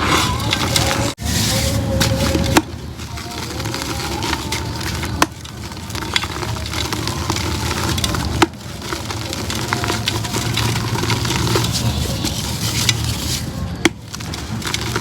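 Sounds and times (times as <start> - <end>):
concrete crumbling: 0.0 - 15.0.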